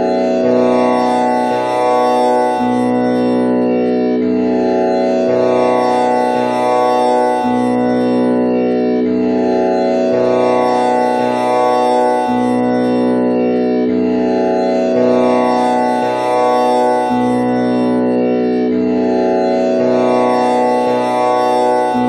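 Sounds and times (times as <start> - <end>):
tanpura drone plucked strings: 0.0 - 22.0.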